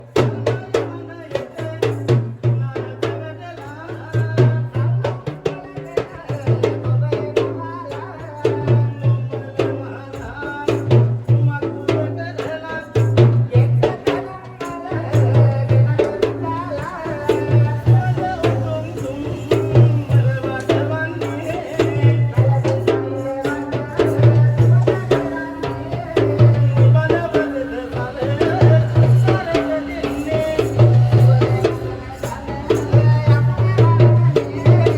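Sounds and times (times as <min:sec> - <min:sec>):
fast drum rhythm: 0:00.0 - 0:34.9.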